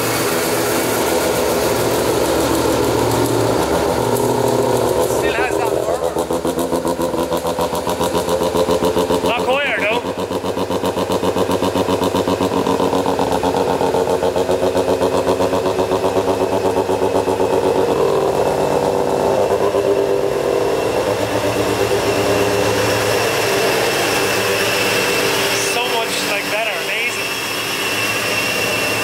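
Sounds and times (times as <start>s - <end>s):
rotary engine idling: 0.0s - 29.0s.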